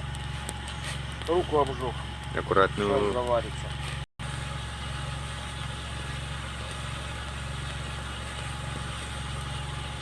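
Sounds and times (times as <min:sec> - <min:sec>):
engine idling drone: 0:00.0 - 0:10.0.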